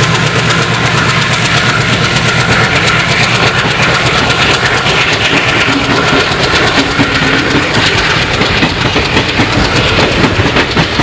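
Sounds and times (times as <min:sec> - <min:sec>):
train rushing past: 0:00.0 - 0:11.0
train wheels clattering over rail joints: 0:00.0 - 0:11.0.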